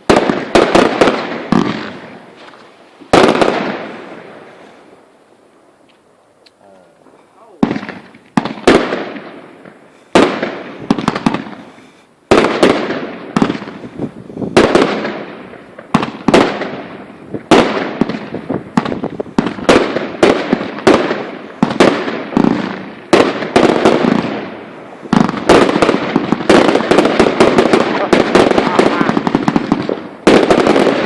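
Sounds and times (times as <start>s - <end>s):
fireworks bangs: 0.0s - 5.5s, 7.0s - 31.0s
fireworks crackling: 0.0s - 31.0s.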